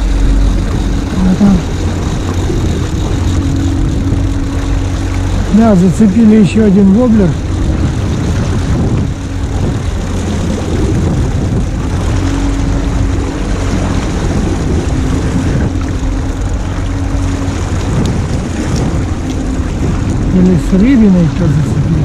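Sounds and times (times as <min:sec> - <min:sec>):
choppy water: 0:00.0 - 0:22.0
outboard motor running: 0:00.0 - 0:22.0
wind rushing: 0:00.0 - 0:22.0.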